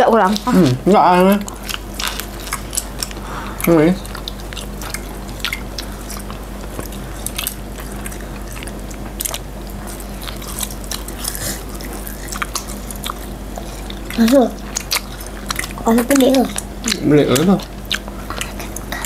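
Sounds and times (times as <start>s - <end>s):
people chewing with wet mouth clicks: 0.0s - 19.0s.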